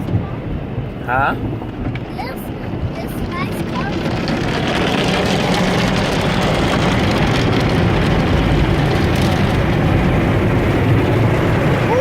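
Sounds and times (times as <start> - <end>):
car wash spray and motor: 0.0 - 12.0
low rumble: 0.0 - 12.0.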